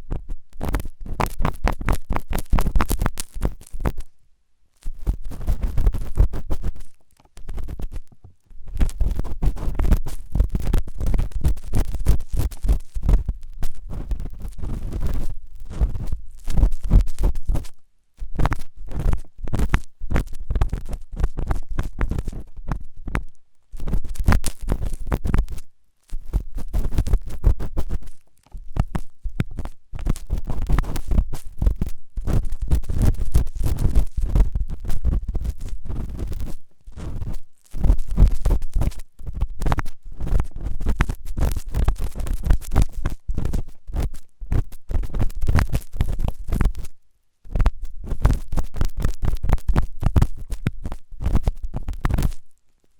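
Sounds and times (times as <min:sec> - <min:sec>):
ear-cleaning tool scraping microphone: 0:00.0 - 0:04.1, 0:04.8 - 0:46.9.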